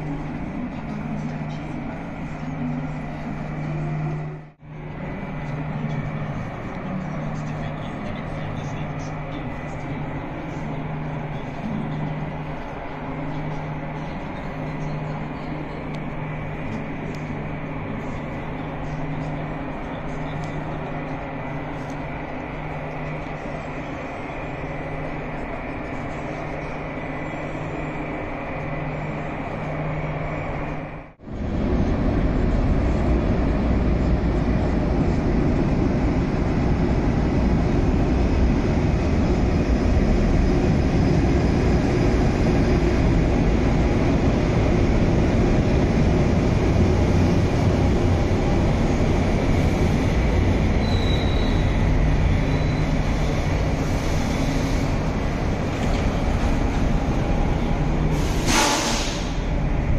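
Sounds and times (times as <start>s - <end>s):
high squeal of train: 0.0s - 59.9s
train wheels rumbling: 0.0s - 59.9s.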